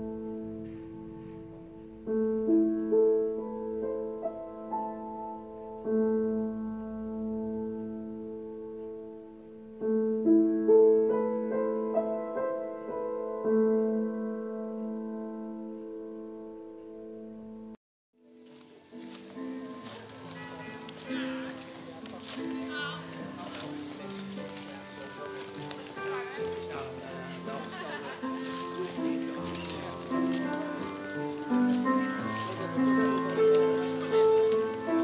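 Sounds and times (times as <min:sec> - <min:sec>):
slow solo piano: 0:00.0 - 0:35.0.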